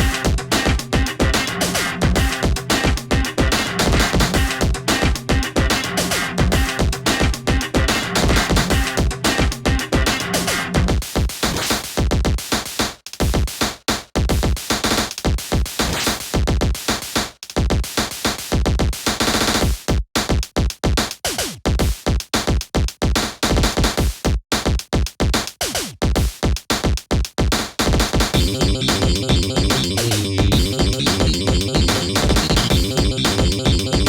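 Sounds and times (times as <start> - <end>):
electronic music with drum-machine beat: 0.0 - 19.9, 25.3 - 34.0.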